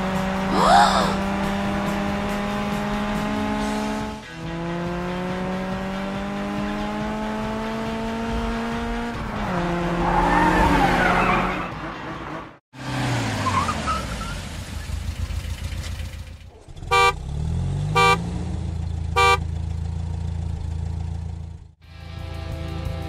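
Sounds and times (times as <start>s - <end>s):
racing car engine accelerating: 0.0s - 15.2s, 16.0s - 21.7s.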